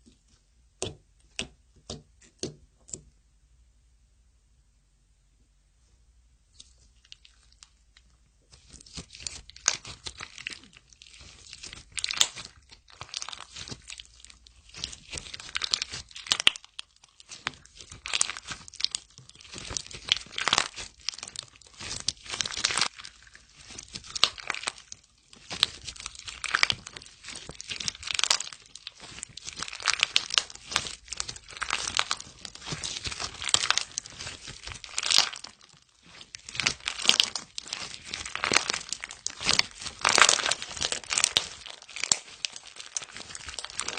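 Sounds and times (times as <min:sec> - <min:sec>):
slime squeezed by hand: 0:08.5 - 0:43.9.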